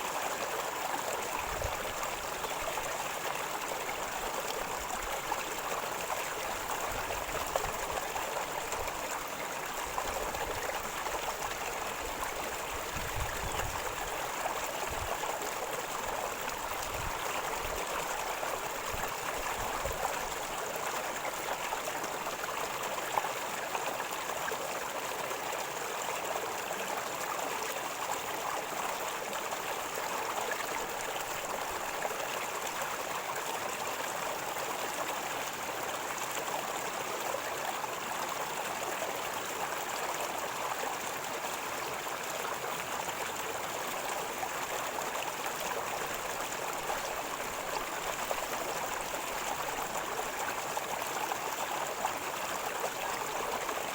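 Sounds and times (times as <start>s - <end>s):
river water gurgling over stones: 0.0s - 53.9s.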